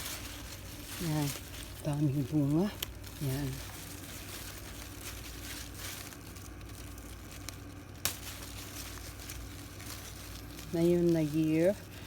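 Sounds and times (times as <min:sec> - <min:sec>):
vines and leaves rustling: 0:00.0 - 0:12.0.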